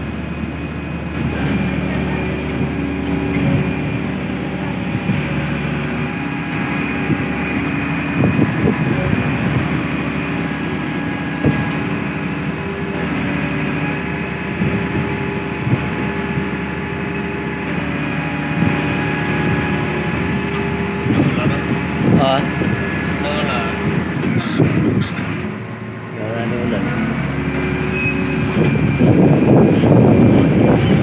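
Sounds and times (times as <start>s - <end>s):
crane machinery humming: 0.0s - 31.0s.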